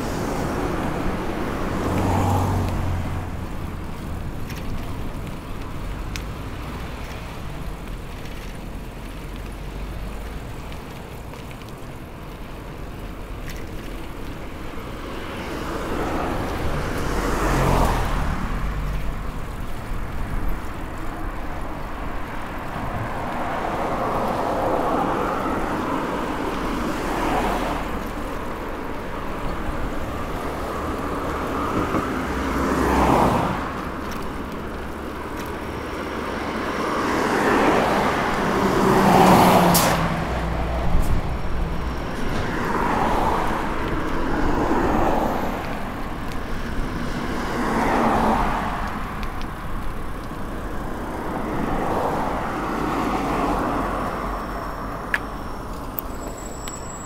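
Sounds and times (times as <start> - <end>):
cars passing: 0.0 - 57.0
steady road hum: 0.0 - 57.0.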